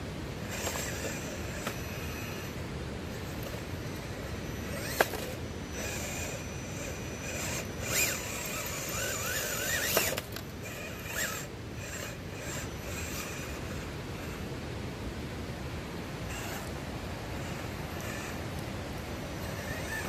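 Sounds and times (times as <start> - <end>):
steady hiss: 0.0 - 20.0
electric motor whining: 0.1 - 20.0.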